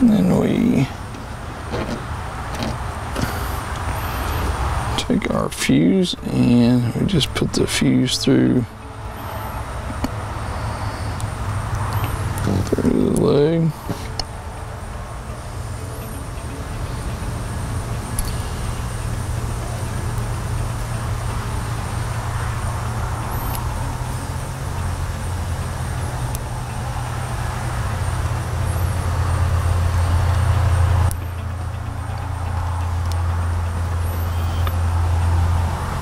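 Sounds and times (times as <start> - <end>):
low mechanical drone: 0.0 - 36.0.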